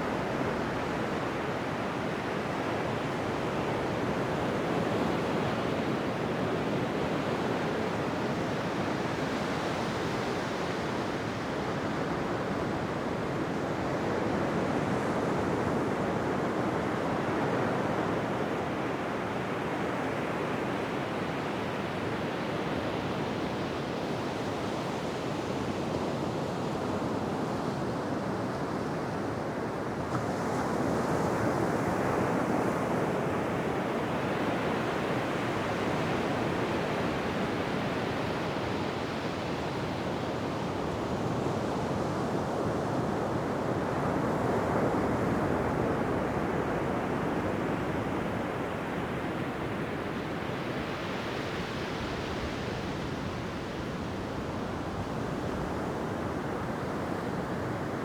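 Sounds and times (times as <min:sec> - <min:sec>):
ocean waves breaking on a beach: 0:00.0 - 0:58.0.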